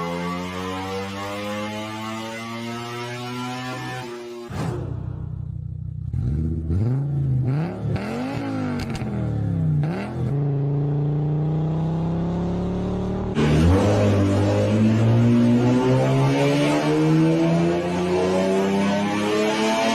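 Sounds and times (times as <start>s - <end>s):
car engine revving: 0.0s - 19.9s
engine accelerating: 0.0s - 19.9s.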